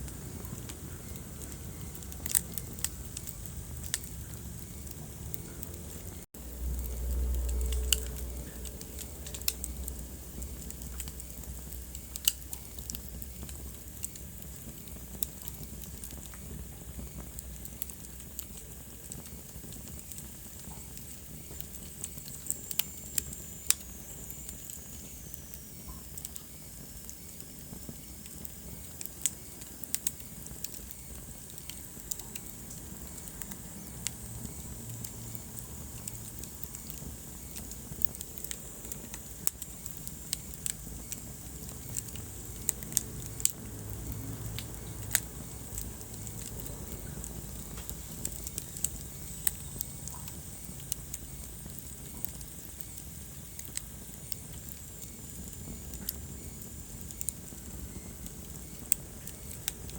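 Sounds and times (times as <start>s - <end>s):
fire crackling and popping: 0.0s - 59.9s
fire hissing: 0.0s - 59.9s.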